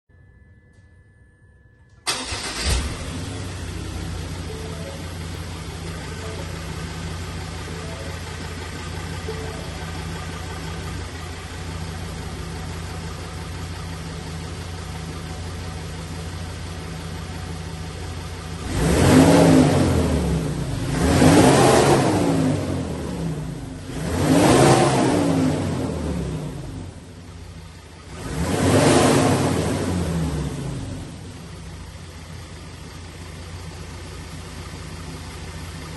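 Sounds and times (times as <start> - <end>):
diesel engine idling and revving: 2.1 - 35.9.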